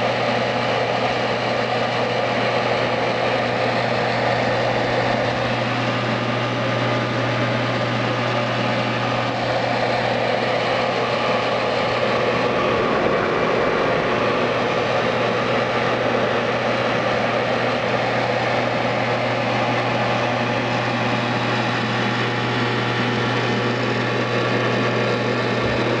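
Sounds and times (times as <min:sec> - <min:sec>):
computer fan rushing noise: 0:00.0 - 0:26.0
computer humming: 0:00.0 - 0:26.0.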